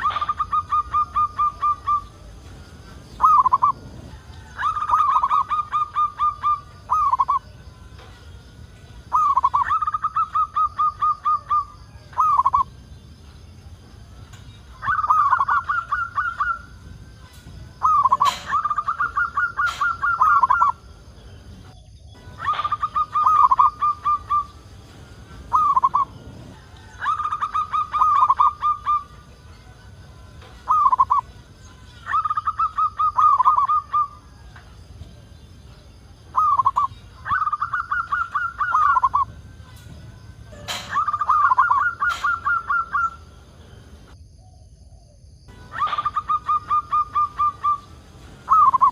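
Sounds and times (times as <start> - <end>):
dove cooing: 0.0 - 7.6, 9.0 - 12.7, 14.6 - 21.6, 22.2 - 29.8, 30.4 - 48.9.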